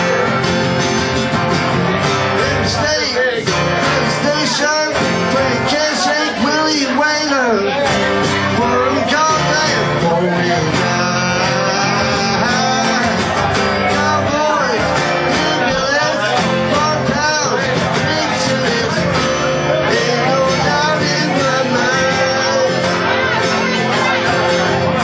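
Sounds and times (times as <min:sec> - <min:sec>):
acoustic guitars strumming: 0:00.0 - 0:25.0
man singing into microphone: 0:02.2 - 0:25.0.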